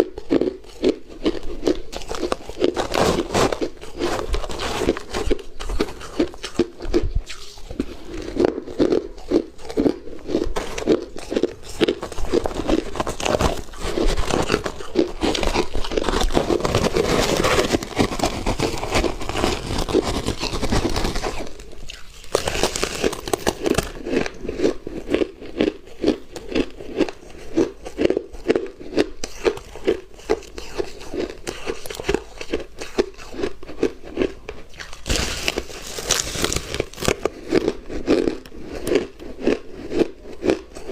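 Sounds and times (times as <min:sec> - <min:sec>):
person chewing crunchy ice: 0:00.0 - 0:40.9.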